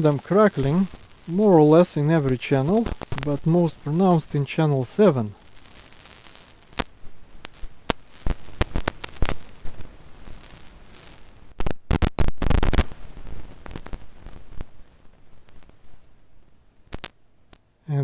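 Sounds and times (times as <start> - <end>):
electrical crackling and pops: 0.0 - 18.0
low hiss: 0.0 - 18.0.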